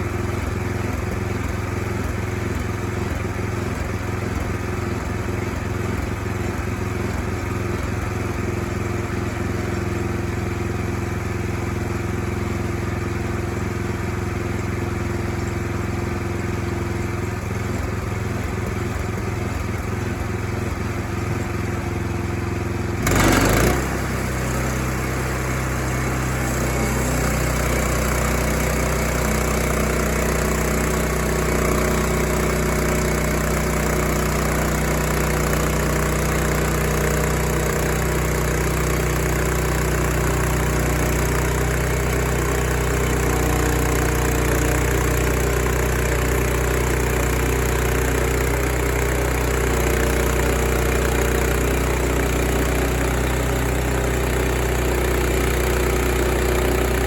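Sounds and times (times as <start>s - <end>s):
gasoline engine running: 0.0s - 57.0s.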